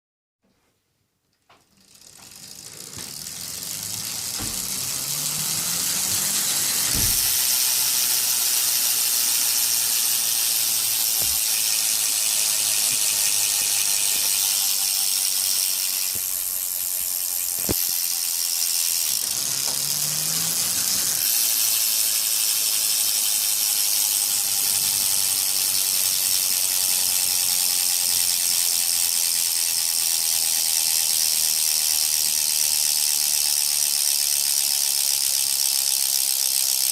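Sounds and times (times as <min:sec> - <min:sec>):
bicycle freehub ticking buzz: 0:01.4 - 0:36.9.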